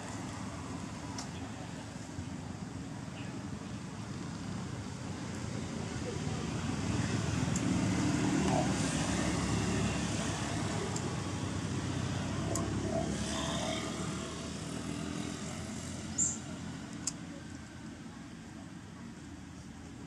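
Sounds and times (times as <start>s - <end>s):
low engine-like drone: 0.0s - 20.0s.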